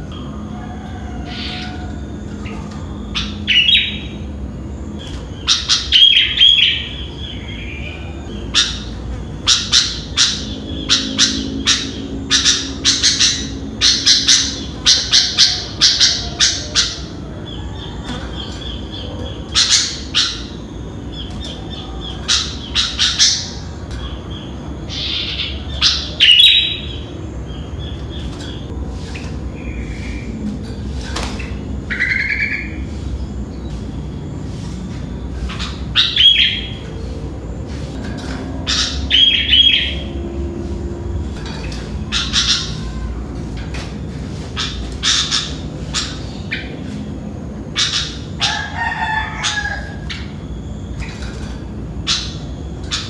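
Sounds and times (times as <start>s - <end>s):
bird chirping calls: 0.0s - 53.0s
low background hum: 0.0s - 53.0s.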